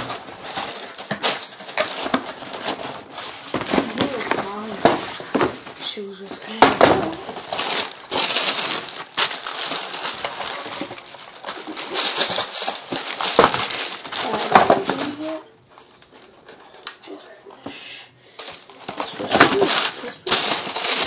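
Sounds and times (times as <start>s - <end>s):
tissue paper rustling and crinkling: 0.0s - 16.9s, 18.4s - 21.0s.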